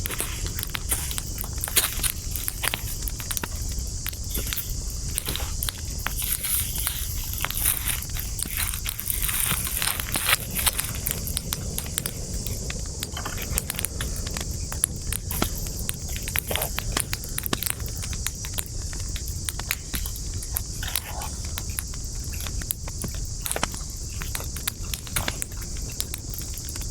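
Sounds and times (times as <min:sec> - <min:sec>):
campfire crackling: 0:00.0 - 0:26.9
steady high hiss: 0:00.0 - 0:26.9.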